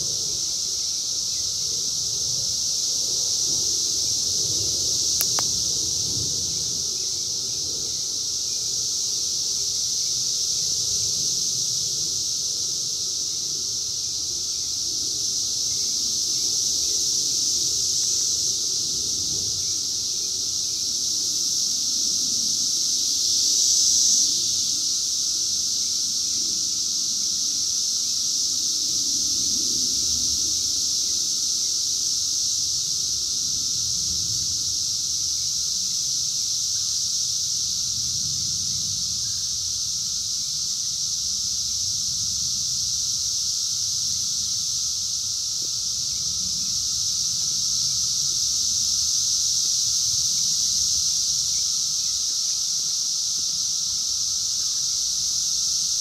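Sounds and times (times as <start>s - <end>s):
cicadas buzzing drone: 0.0s - 56.0s.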